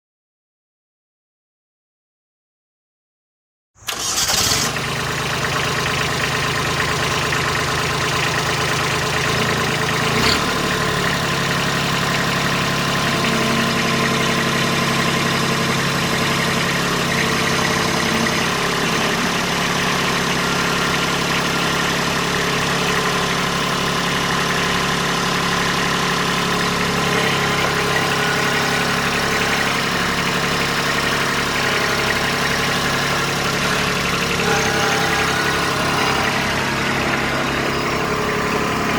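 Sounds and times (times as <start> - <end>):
diesel engine idling: 3.9 - 38.9.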